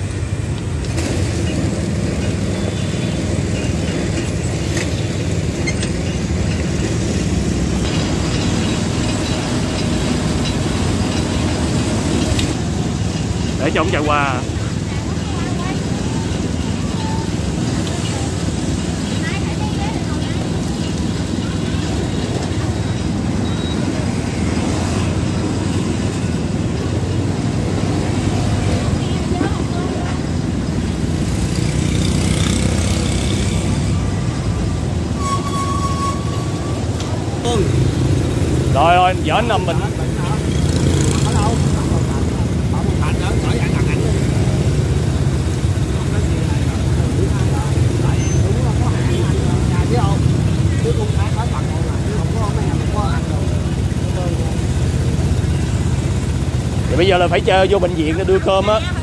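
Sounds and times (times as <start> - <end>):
busy street traffic rumble: 0.0 - 59.0
motorbikes passing: 0.0 - 59.0.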